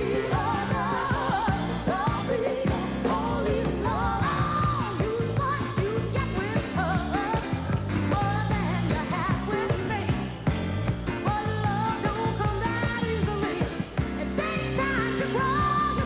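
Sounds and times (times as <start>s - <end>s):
live band music: 0.0s - 16.0s
singers ad-libbing: 0.0s - 16.0s.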